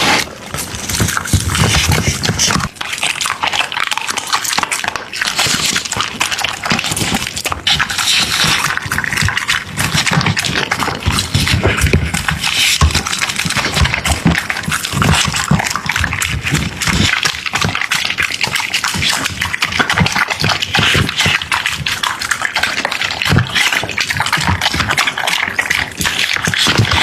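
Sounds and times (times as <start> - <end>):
dog chewing and lapping: 0.0 - 27.0.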